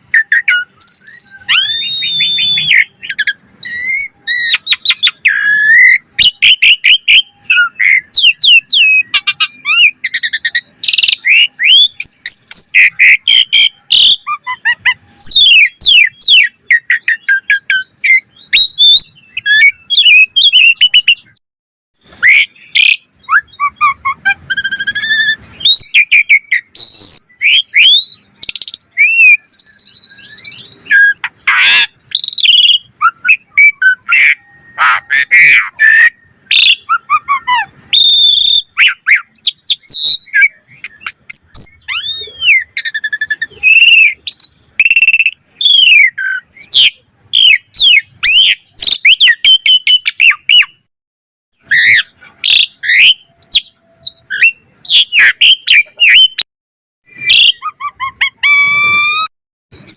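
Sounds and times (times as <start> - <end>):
starling singing: 0.0 - 21.4, 22.0 - 50.9, 51.6 - 56.5, 57.1 - 59.9.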